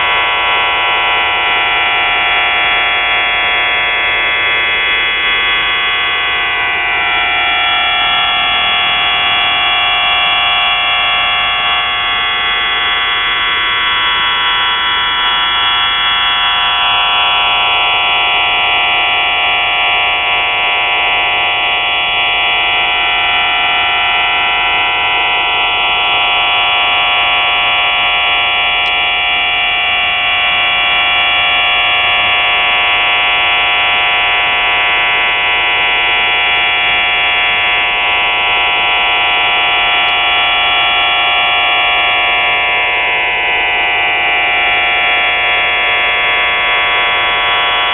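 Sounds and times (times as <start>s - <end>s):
shortwave radio buzz: 0.0s - 47.9s.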